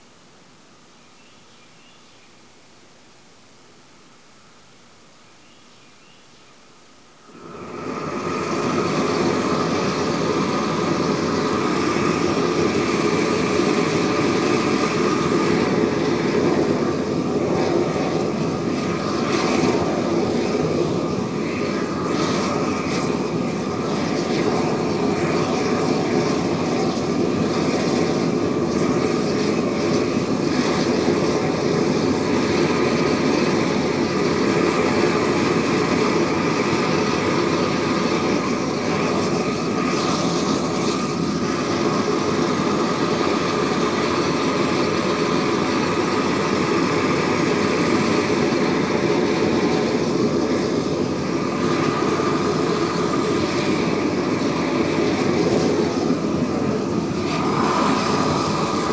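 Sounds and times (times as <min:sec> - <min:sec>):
gas torch flame rushing: 0:07.2 - 0:58.9.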